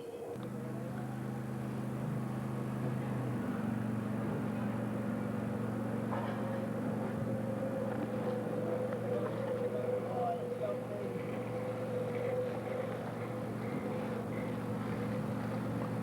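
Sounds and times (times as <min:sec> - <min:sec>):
vehicle engine running: 0:00.4 - 0:16.0.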